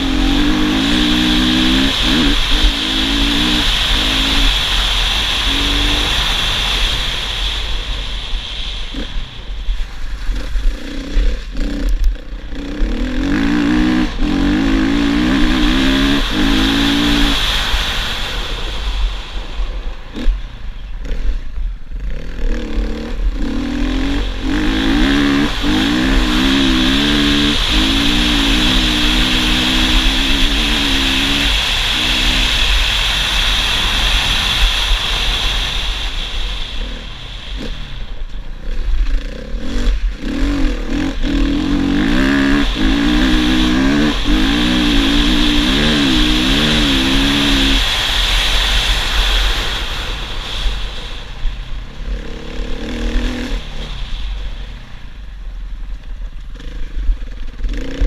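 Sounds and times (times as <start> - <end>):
dirt bike engine at full throttle: 0.0 - 58.0
wind rushing over microphone: 0.0 - 58.0.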